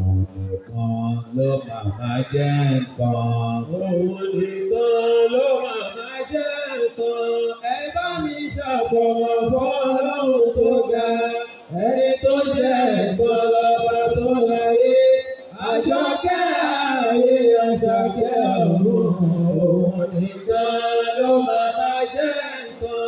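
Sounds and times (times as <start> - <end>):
man chanting melodically: 0.0 - 23.0.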